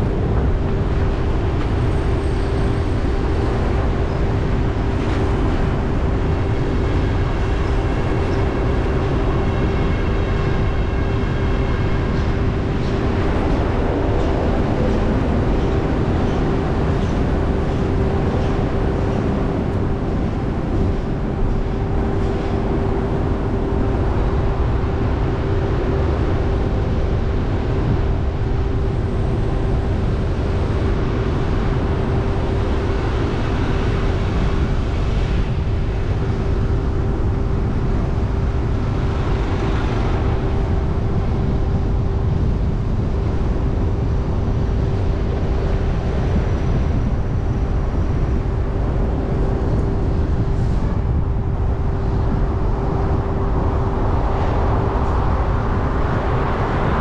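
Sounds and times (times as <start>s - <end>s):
car road noise rumble: 0.0s - 57.0s
constant hum: 0.0s - 57.0s.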